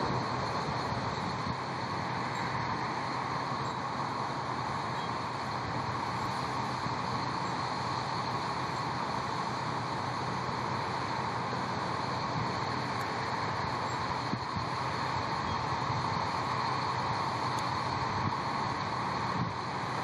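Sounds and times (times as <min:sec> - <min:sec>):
buses idling: 0:00.0 - 0:20.0.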